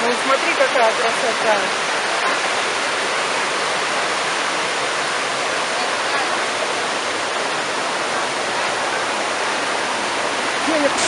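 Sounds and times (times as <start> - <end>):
mountain river rushing: 0.0 - 11.0.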